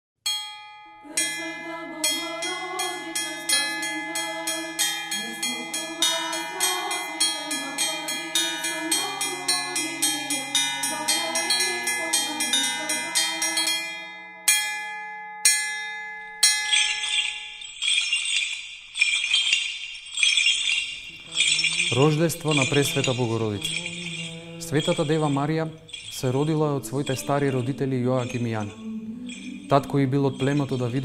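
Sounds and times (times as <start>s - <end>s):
church bells ringing: 0.3s - 18.4s, 20.4s - 31.0s
wavering lower melody: 0.4s - 31.0s.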